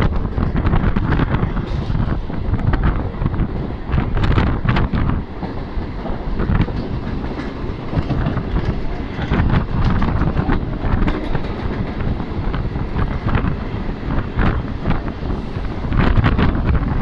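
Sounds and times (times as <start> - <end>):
train wheels rumbling on rail: 0.0 - 17.0
wheels clacking over rail joints: 0.0 - 17.0.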